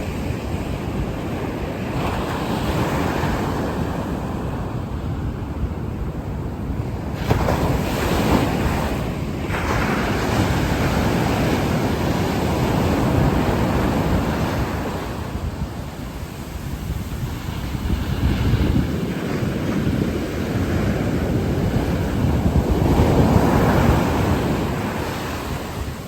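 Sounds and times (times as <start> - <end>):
sea waves breaking: 0.0 - 26.0
wind buffeting microphone: 0.0 - 26.0.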